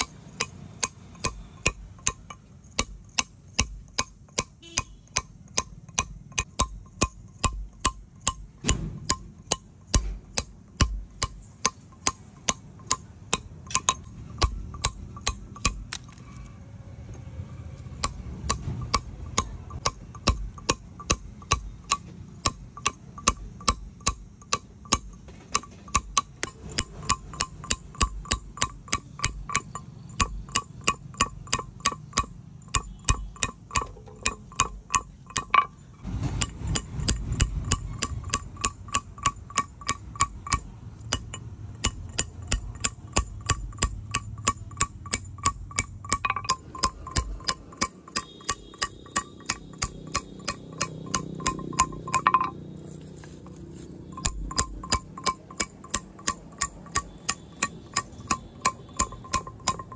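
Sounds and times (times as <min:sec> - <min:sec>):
hammer tapping steel chisel on stone: 0:00.0 - 0:59.9.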